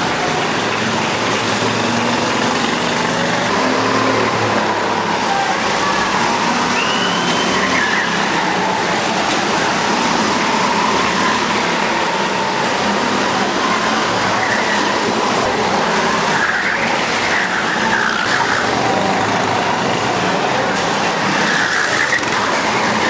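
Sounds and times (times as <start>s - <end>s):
go-kart engines racing: 0.0s - 23.0s.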